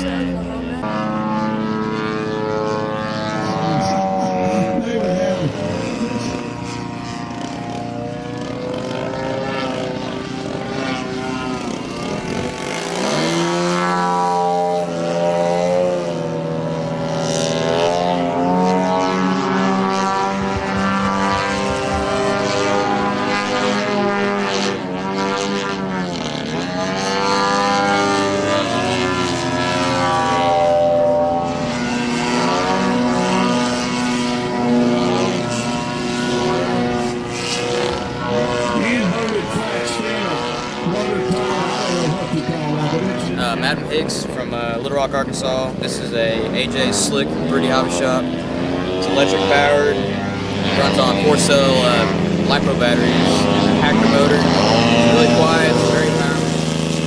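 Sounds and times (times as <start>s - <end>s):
model airplane engine: 0.0s - 57.0s.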